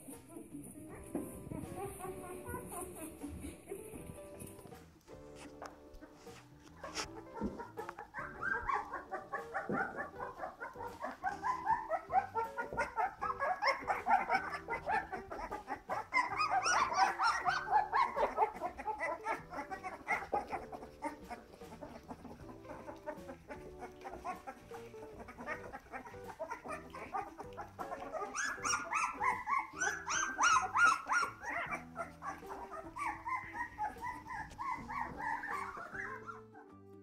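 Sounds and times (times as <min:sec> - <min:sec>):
puppies squeaking and whining: 0:00.0 - 0:36.8.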